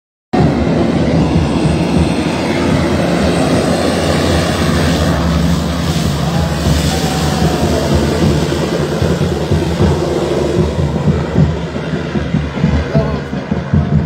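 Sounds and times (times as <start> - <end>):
turboprop plane engines droning: 0.3 - 14.0.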